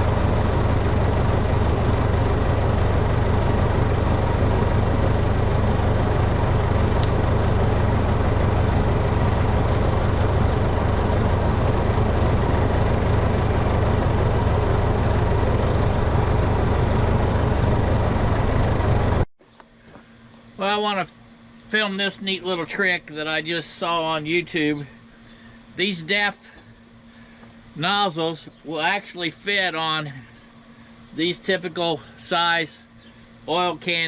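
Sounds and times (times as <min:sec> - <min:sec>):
tractor engine droning: 0:00.0 - 0:34.0.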